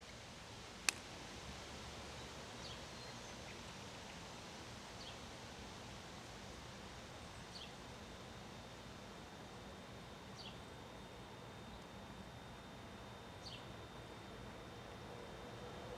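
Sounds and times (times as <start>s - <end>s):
wind: 0.0s - 15.9s.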